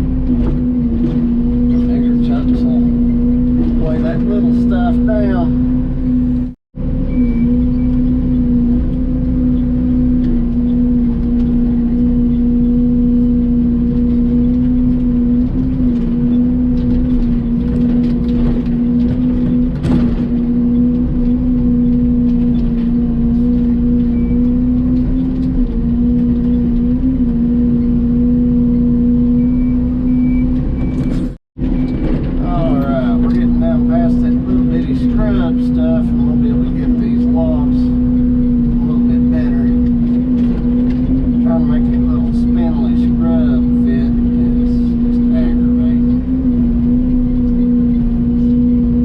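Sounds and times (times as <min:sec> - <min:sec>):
excavator engine running: 0:00.0 - 0:49.0.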